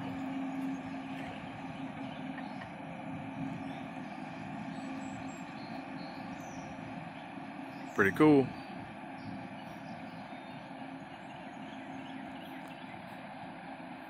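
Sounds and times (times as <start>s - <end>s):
boat engine hum: 0.0s - 14.0s.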